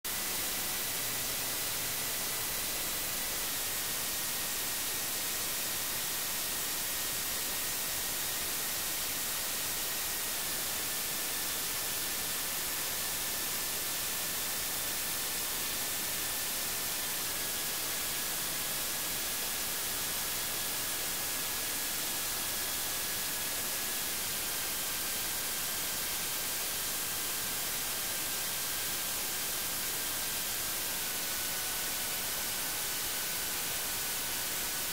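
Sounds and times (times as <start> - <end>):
electronic white noise hiss: 0.1 - 34.9.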